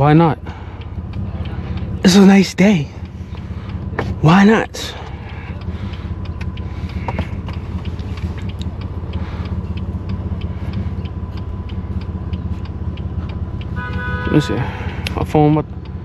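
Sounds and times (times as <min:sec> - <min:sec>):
car engine exhaust drone: 0:00.0 - 0:16.0.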